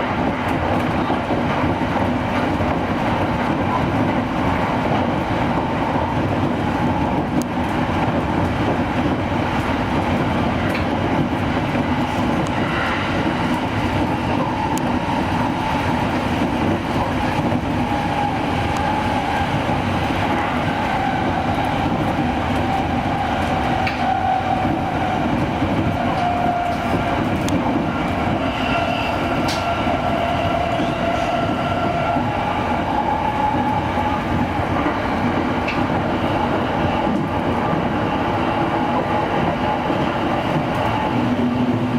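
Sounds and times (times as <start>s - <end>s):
train running rumble: 0.0s - 41.9s
train whine: 0.0s - 41.9s.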